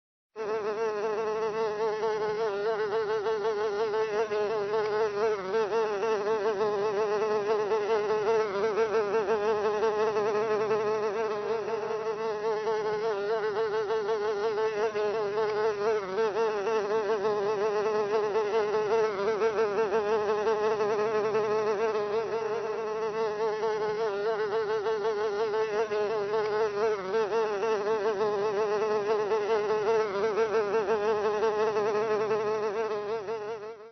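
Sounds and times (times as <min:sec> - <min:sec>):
fly buzzing: 0:00.4 - 0:33.9.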